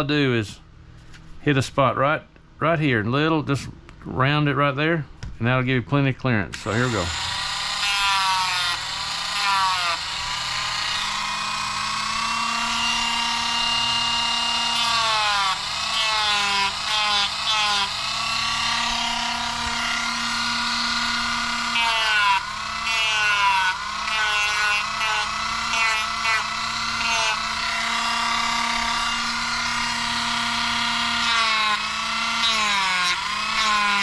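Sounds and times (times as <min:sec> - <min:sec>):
rotary tool grinding plastic: 0:06.6 - 0:34.0.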